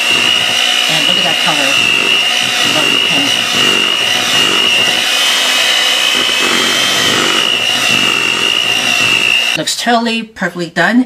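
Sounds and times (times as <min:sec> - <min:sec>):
electric hand mixer whirring: 0:00.0 - 0:09.6.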